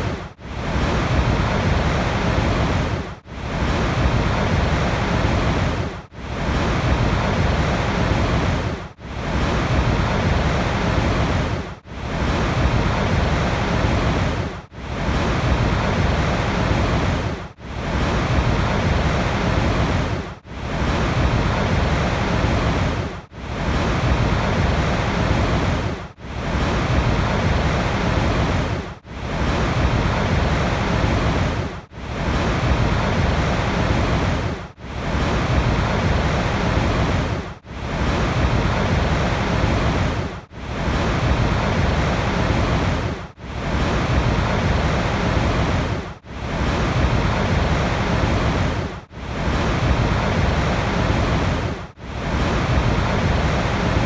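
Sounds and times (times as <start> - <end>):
rushing water: 9.2 - 54.0.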